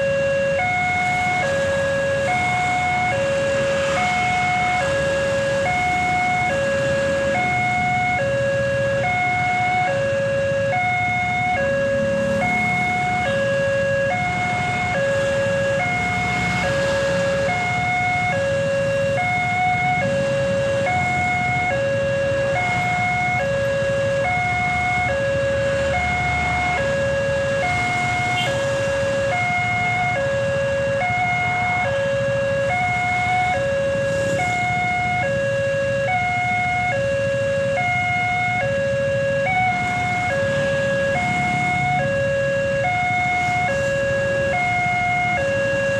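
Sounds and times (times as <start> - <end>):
two-tone level-crossing siren: 0.0 - 45.9.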